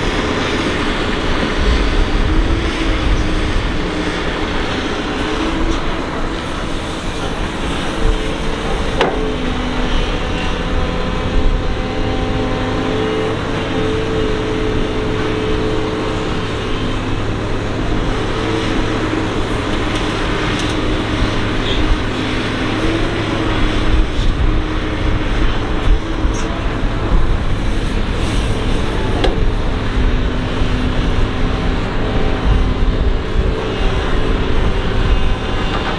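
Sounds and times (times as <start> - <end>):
excavator diesel engine working: 0.0 - 35.9.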